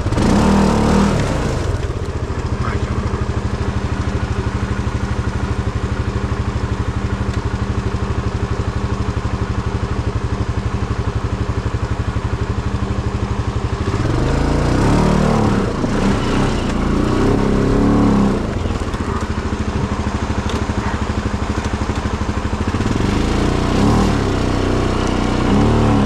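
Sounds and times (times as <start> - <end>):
tractor engine chugging and revving: 0.0 - 26.0.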